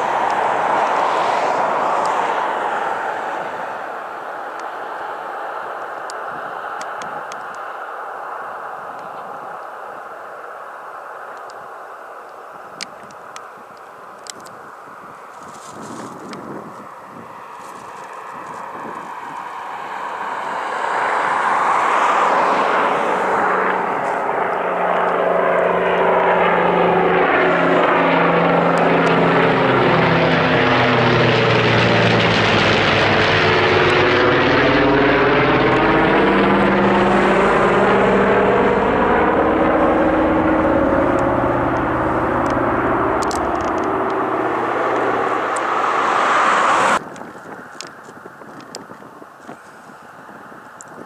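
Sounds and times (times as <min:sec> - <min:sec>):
propeller plane passing low overhead: 0:00.0 - 0:49.0.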